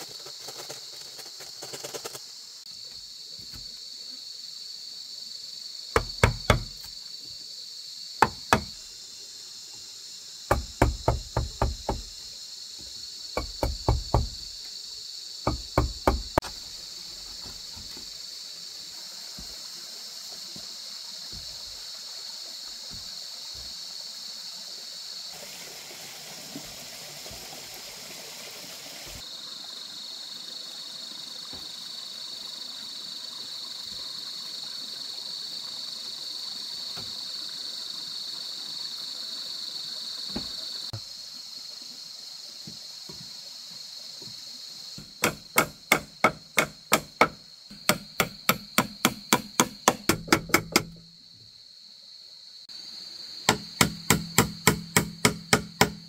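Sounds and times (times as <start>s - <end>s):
forest insects droning: 0.0s - 56.0s.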